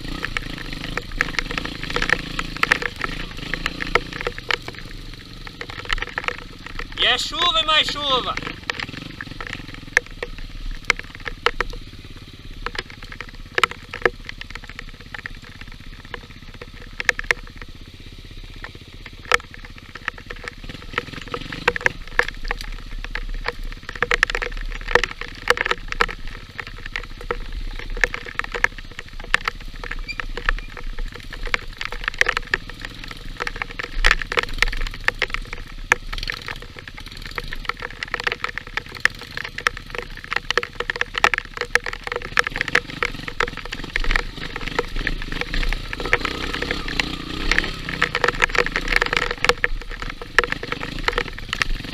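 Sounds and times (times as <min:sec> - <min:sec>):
motorcycle engine running: 0:00.0 - 0:51.9
sharp taps and clatters: 0:00.0 - 0:51.9.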